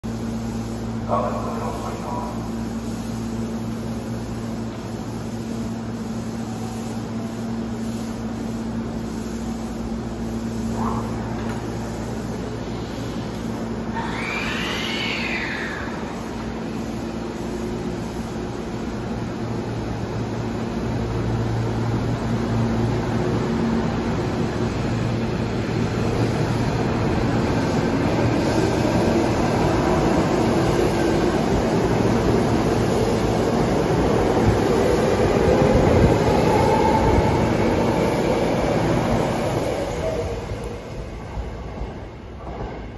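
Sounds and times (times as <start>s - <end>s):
electric train equipment humming: 0.1s - 42.4s.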